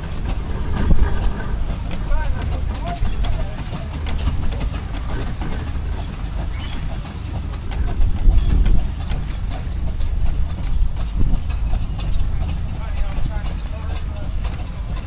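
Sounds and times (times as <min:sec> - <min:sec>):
clanks and ticks: 0:00.0 - 0:15.0
steam engines rumbling: 0:00.0 - 0:15.0.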